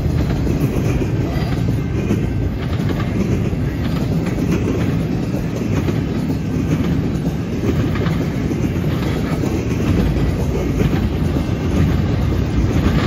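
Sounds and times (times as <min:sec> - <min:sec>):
steel wheels rumbling on rails: 0:00.0 - 0:13.0
wheels clicking over track: 0:00.0 - 0:13.0.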